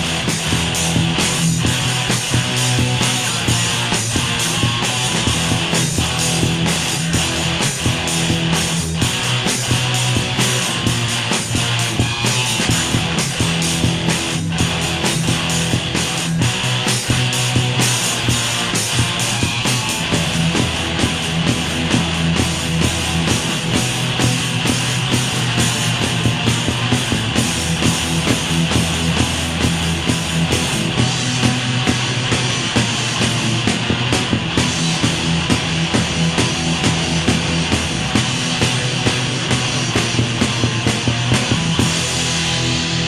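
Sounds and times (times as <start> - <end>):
bass guitar: 0.0 - 43.0
distorted electric guitars: 0.0 - 43.0
drums with cymbal and snare hits: 0.0 - 43.0.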